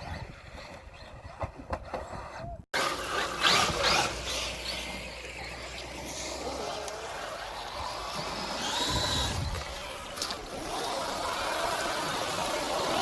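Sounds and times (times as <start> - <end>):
toy truck motor rushing: 0.0 - 13.0.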